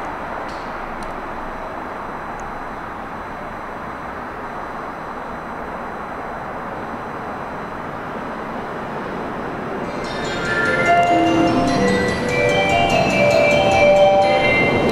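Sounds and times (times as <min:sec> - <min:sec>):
distant subway train rumbling: 0:00.0 - 0:14.9.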